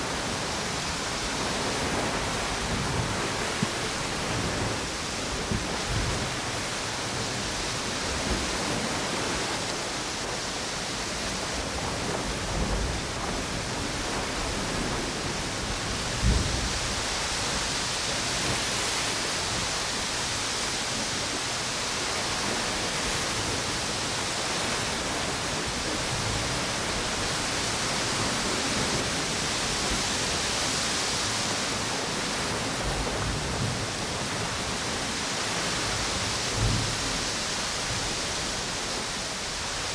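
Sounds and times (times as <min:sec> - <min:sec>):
ocean surf on beach: 0:00.0 - 0:39.9
storm wind: 0:00.0 - 0:39.9
wind gusts buffeting microphone: 0:00.0 - 0:39.9.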